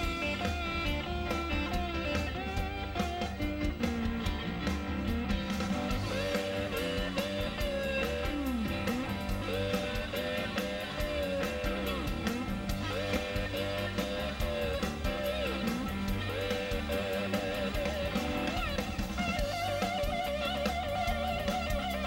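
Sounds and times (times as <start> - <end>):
bass: 0.0 - 22.0
electric guitar lead bending notes: 0.0 - 22.0
steady drum beat with cymbals: 0.0 - 22.0.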